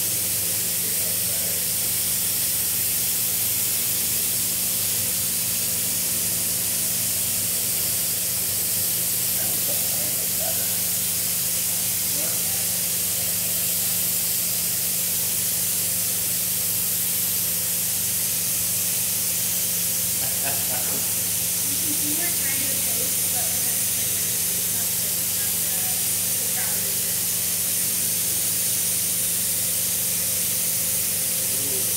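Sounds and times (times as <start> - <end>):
printer hissing: 0.0 - 31.9.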